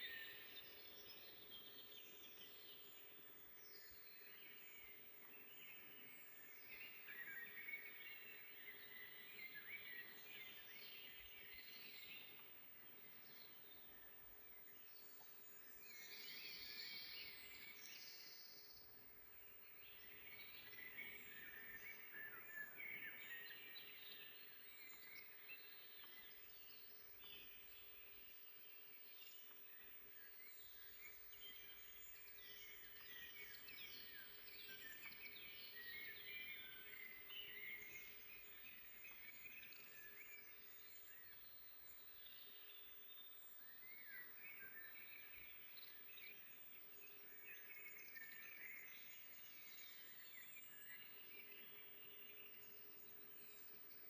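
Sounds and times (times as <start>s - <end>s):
soft steady background hiss: 0.0s - 54.0s
songbirds singing: 0.0s - 54.0s.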